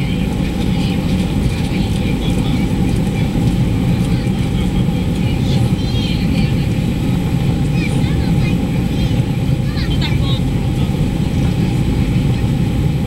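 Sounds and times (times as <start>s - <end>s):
jet engine rumble in cabin: 0.0s - 13.0s
steady cabin hum: 0.0s - 13.0s.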